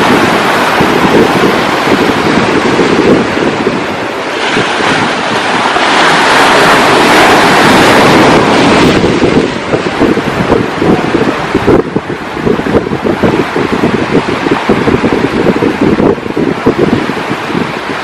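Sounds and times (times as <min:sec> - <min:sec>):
ocean surf: 0:00.0 - 0:18.0
wave breaking and washing in: 0:00.0 - 0:18.0
wind buffeting microphone: 0:00.0 - 0:18.0.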